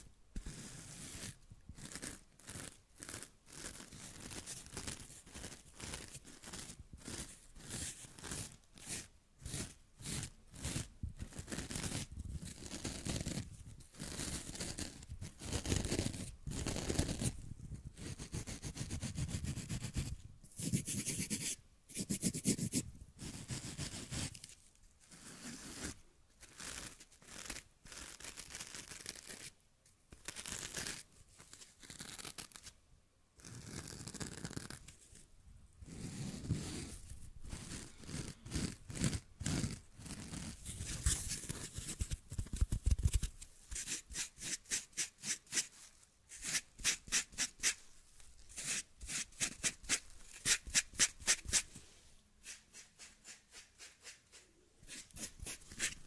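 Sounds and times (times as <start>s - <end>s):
fingertips scratching foam pad: 0.4s - 24.4s, 25.1s - 29.5s, 33.4s - 34.8s, 35.8s - 47.8s, 48.5s - 51.7s, 52.4s - 56.0s.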